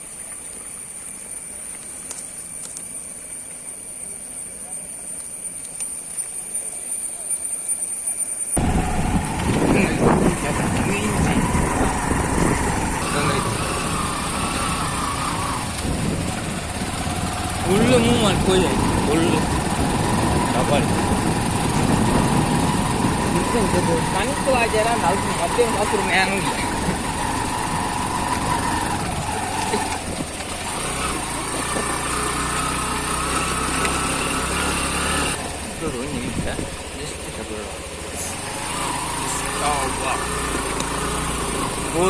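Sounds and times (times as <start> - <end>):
motorcycle engine rumbling: 1.4 - 42.0.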